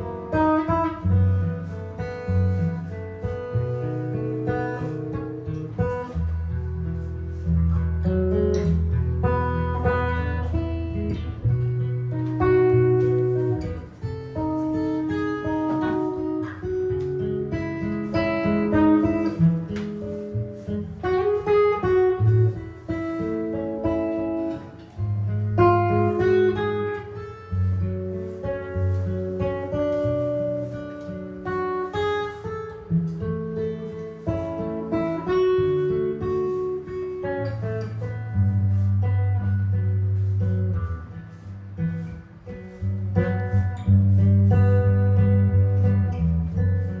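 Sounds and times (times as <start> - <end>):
solo jazz guitar: 0.0 - 47.0.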